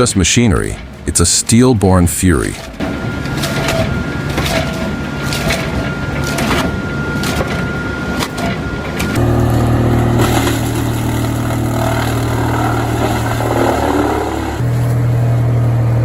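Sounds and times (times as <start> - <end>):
large engine deep hum: 0.0 - 16.0
machine high whine: 2.5 - 16.0.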